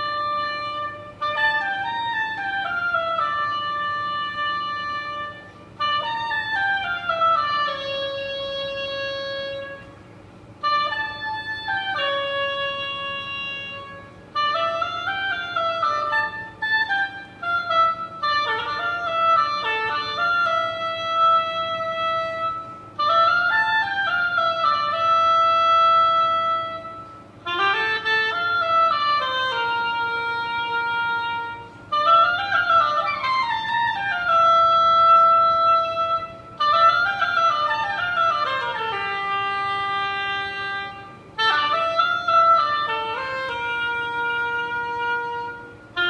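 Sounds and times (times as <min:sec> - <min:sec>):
solo oboe playing: 0:00.0 - 0:46.0.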